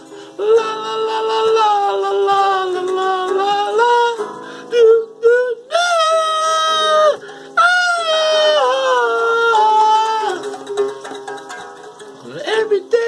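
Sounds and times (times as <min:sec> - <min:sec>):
man singing wordless notes: 0:00.3 - 0:10.7, 0:12.1 - 0:13.0.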